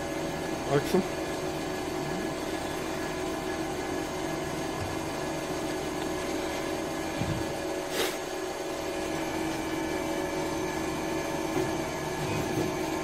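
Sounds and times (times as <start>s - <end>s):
mechanical hum with tones: 0.0s - 13.0s.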